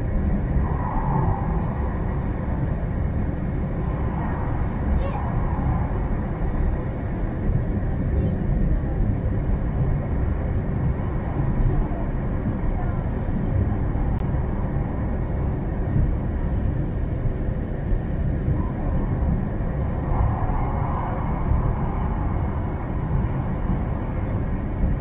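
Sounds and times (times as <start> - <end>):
wheels rumbling on rails: 0.0 - 25.0.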